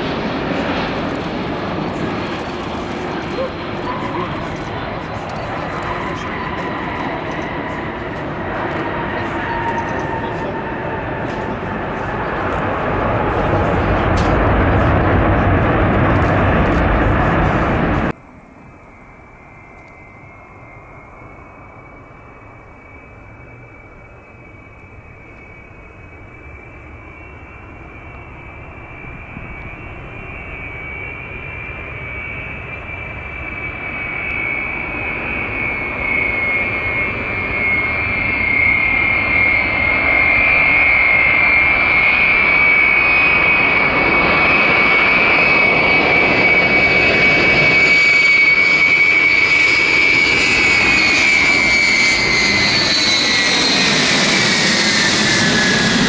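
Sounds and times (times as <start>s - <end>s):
high steady engine whine: 0.0s - 56.0s
jet engines rumbling: 0.0s - 56.0s.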